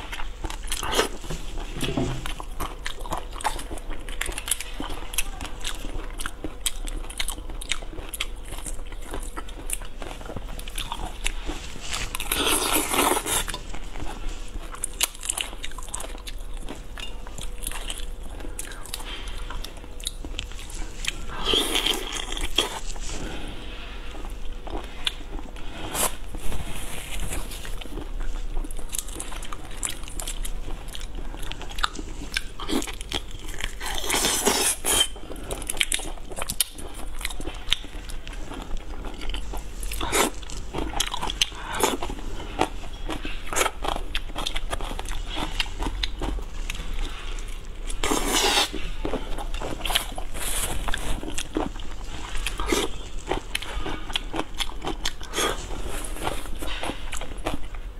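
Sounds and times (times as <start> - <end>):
chewing and crunching shellfish: 0.0 - 57.9.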